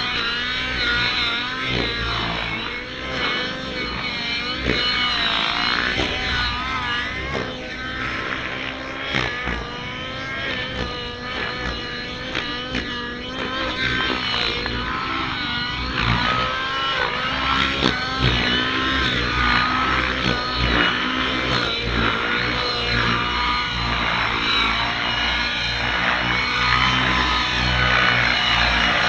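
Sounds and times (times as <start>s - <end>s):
model helicopter engine running: 0.0s - 29.0s.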